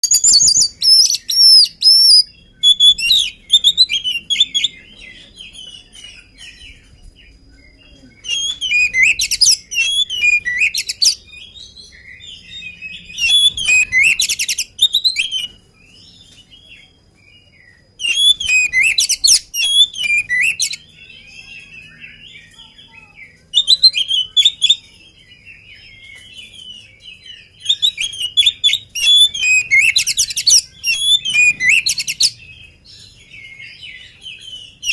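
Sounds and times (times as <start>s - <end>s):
bird whistling song: 0.0s - 34.9s
quiet bird twittering: 0.0s - 34.9s.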